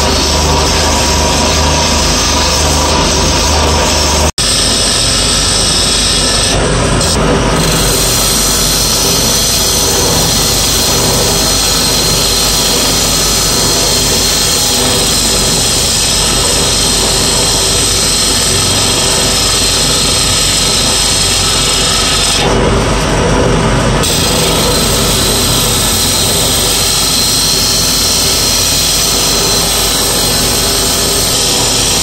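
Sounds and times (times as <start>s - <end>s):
chisel scraping spinning wood: 0.0s - 23.1s, 24.0s - 32.0s
lathe motor hum: 0.0s - 32.0s.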